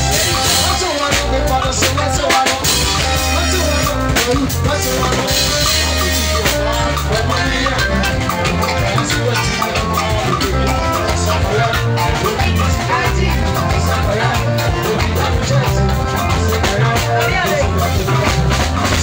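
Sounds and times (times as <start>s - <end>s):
bass line: 0.0s - 19.0s
drum kit beat: 0.0s - 19.0s
keyboard: 0.0s - 19.0s
live band dance music: 0.0s - 19.0s.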